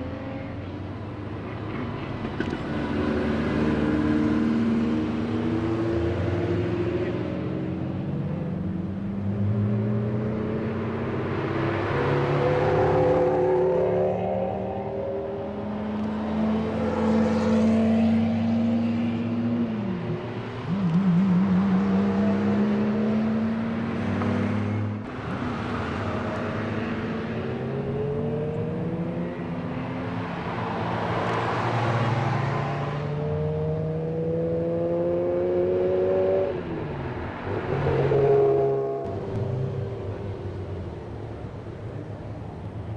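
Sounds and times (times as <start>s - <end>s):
supercars driving by: 0.0s - 42.9s.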